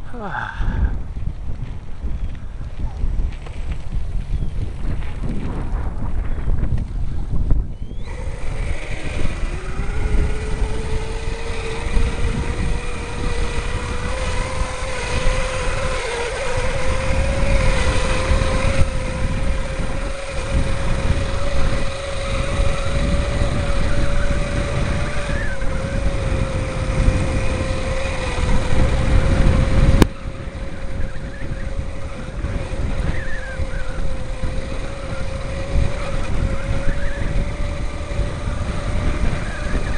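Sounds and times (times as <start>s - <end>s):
electric bike motor whining: 0.0s - 39.9s
wind buffeting microphone: 0.0s - 39.9s.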